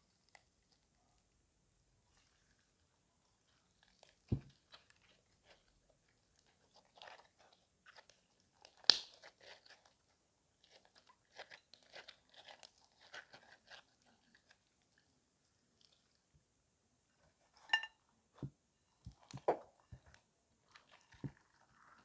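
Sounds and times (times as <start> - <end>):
slime squishing by hand: 2.0 - 16.3, 18.4 - 22.0.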